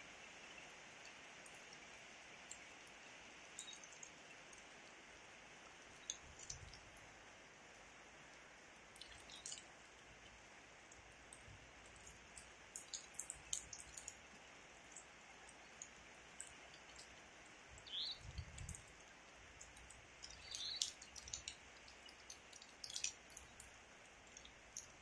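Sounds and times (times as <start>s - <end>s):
faint rain hiss: 0.0s - 25.0s
sharp water drips: 0.0s - 25.0s.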